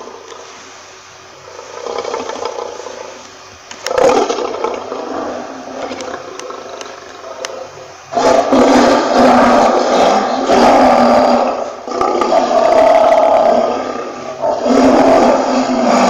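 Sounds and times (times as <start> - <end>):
lion roaring: 1.4 - 3.2, 3.9 - 16.0.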